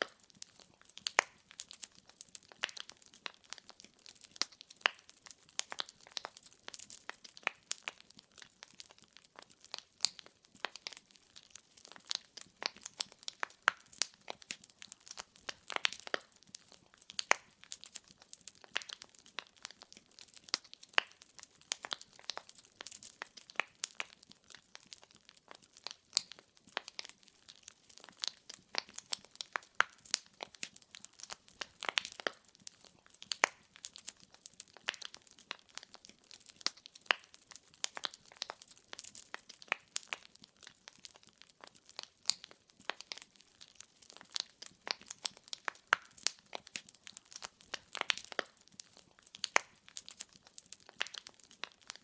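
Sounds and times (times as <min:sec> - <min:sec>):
wood logs crackling in fireplace: 0:00.0 - 0:52.0.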